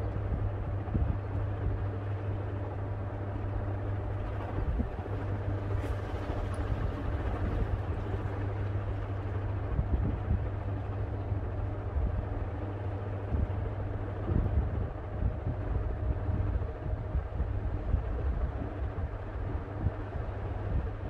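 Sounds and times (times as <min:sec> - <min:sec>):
ceiling fan motor hum: 0:00.0 - 0:21.0.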